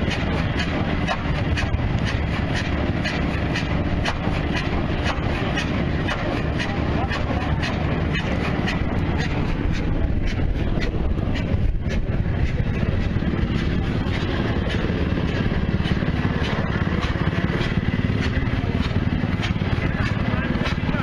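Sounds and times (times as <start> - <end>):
diesel engine running rhythmically: 0.0 - 21.0.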